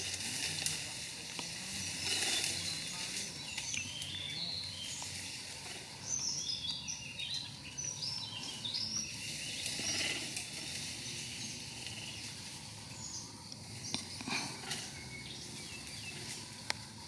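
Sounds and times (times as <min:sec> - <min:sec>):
birds chirping: 0:00.0 - 0:17.0
outdoor ambience hiss: 0:00.0 - 0:17.0.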